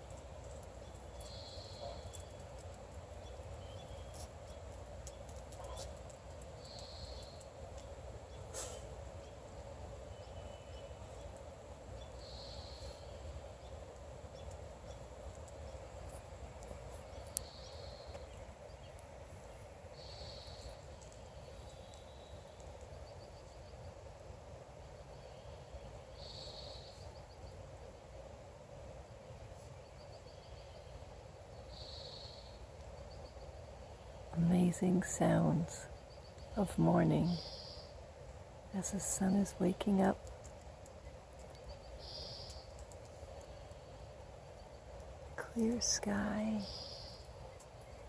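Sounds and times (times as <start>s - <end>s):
songbird singing: 0.0s - 28.1s, 29.2s - 48.0s
steady low hum: 0.0s - 48.0s.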